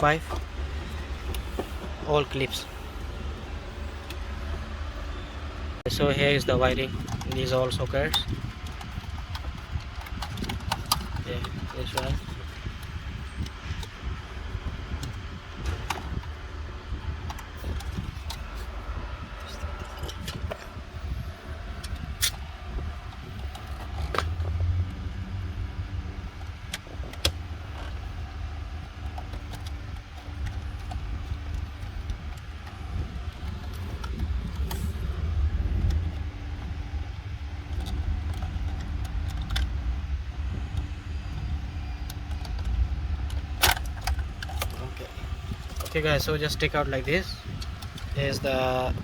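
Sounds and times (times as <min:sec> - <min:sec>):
steady low rumble: 0:00.0 - 0:49.0.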